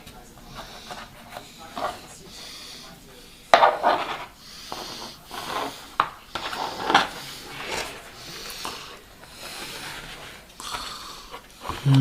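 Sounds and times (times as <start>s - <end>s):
hard objects scraping: 0.4s - 12.0s.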